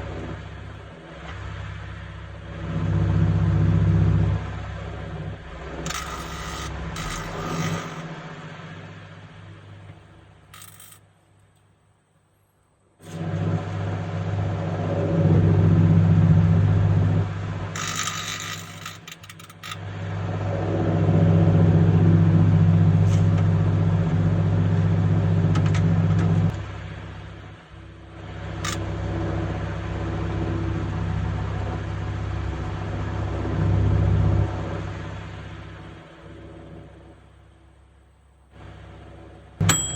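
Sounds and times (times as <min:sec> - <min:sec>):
microwave oven humming: 0:00.0 - 0:10.5, 0:12.9 - 0:39.9.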